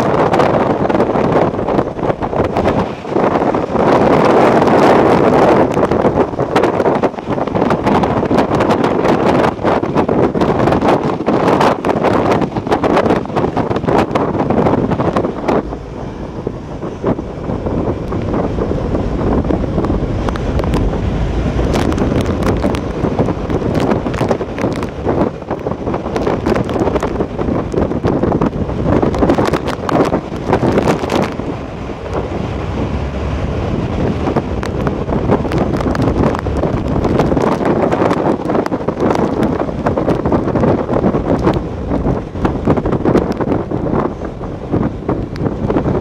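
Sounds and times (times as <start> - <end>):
hurricane wind on microphone: 0.0 - 46.0.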